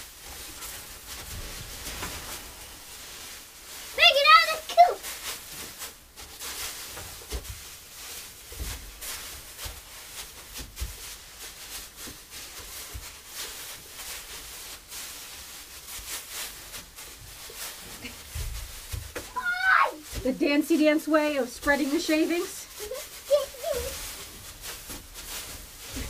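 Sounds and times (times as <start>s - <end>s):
wood shavings rustling underfoot: 0.0s - 26.0s.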